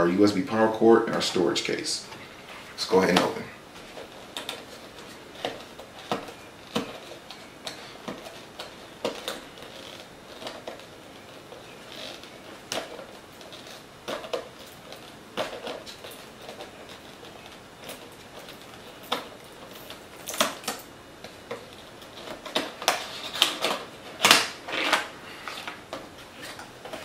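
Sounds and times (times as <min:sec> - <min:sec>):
packaging rustling: 0:00.6 - 0:27.0.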